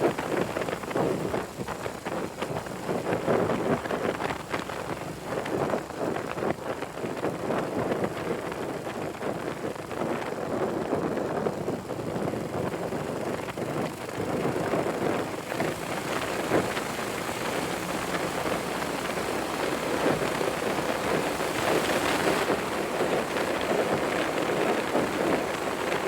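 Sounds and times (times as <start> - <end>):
motorcycle engine running: 0.0 - 26.0
wind buffeting microphone: 0.0 - 26.0.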